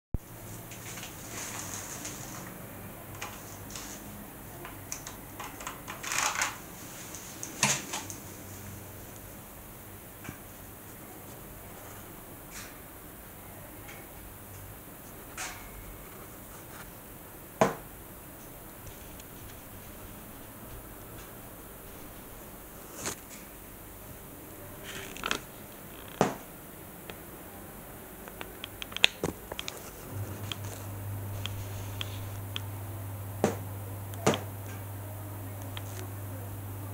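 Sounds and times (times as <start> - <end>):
faint low hum: 6.8 - 36.9.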